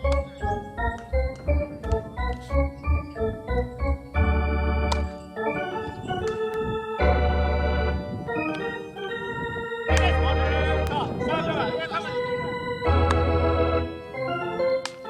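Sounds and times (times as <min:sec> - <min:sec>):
organ-like keyboard music: 0:00.0 - 0:15.0.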